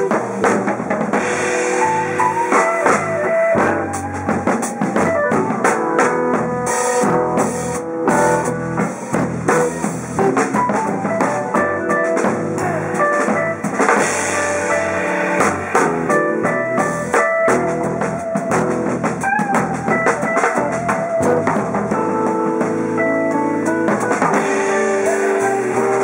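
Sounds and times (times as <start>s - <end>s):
bass: 0.0s - 26.0s
busy drum kit: 0.0s - 26.0s.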